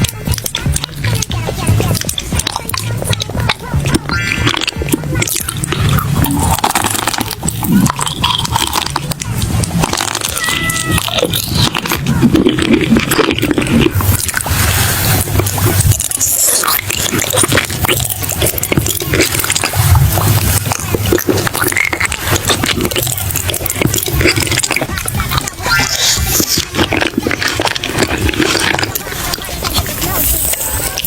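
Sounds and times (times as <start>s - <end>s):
food chewing crunches: 0.0s - 31.0s.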